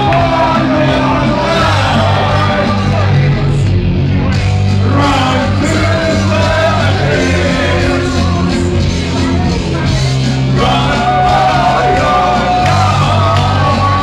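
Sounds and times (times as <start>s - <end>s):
men singing into microphones: 0.0s - 3.6s, 4.8s - 9.0s, 10.5s - 14.0s
backing music with bass line: 0.0s - 14.0s.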